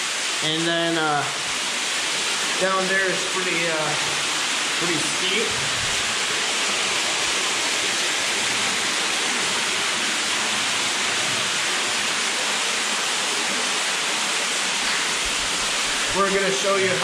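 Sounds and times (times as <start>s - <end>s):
water rushing from small waterfall: 0.0s - 17.0s.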